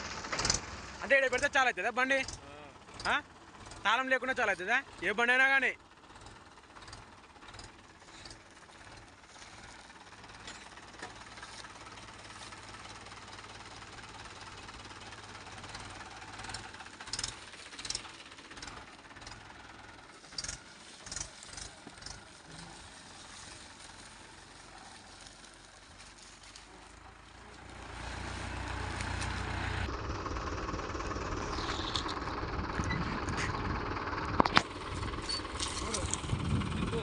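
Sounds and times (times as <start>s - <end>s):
engine knocks and rattles: 0.0s - 37.0s
tractor diesel engine running: 0.0s - 37.0s.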